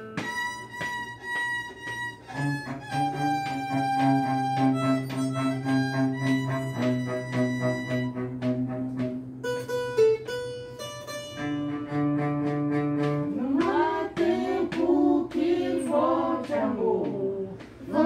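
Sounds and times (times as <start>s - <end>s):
held cello and violin notes: 0.0s - 16.5s
plucked cavaquinho: 0.0s - 17.9s.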